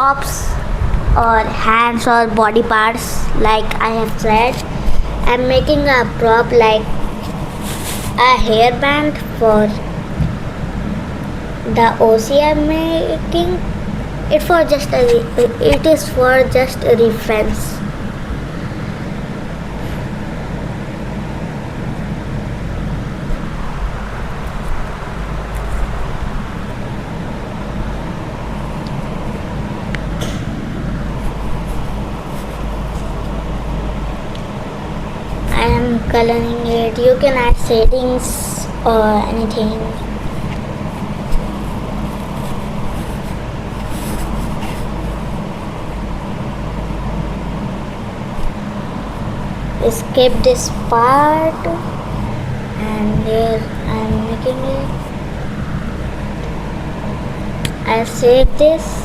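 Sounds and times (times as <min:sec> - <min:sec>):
low hum: 0:00.0 - 0:59.0
low rumble with hiss: 0:00.0 - 0:59.0.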